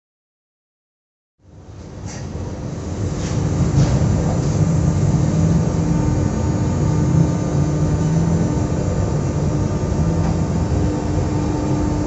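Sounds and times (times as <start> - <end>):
electric train humming: 1.5 - 12.0.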